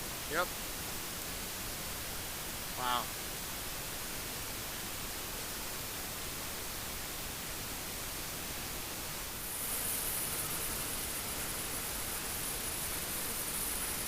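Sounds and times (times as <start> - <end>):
high hiss: 0.0 - 14.0.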